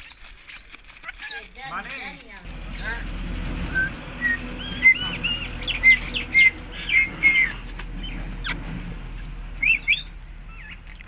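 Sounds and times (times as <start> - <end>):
parakeet chirping: 0.0 - 11.0.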